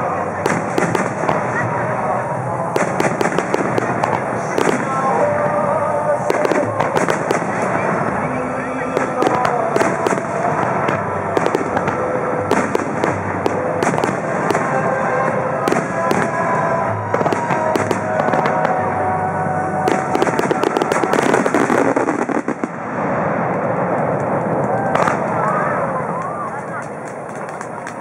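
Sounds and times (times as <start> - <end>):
held musical tones: 0.0 - 22.6
firework bangs: 0.0 - 28.0
fireworks crackling: 0.0 - 28.0.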